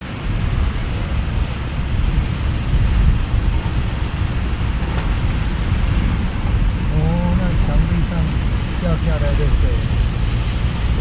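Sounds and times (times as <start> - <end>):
heavy rain pouring: 0.0 - 11.0
low rumble on microphone: 0.0 - 11.0.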